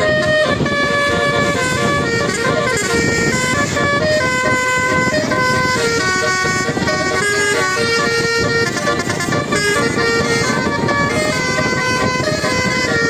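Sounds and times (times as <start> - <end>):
musical bus horn playing a tune: 0.0 - 13.0
steady low rumble: 0.0 - 13.0.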